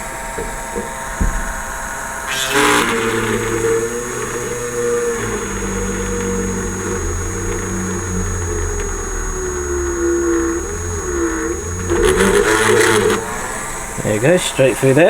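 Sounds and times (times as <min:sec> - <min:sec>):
electric drill boring plastic: 0:02.2 - 0:15.0.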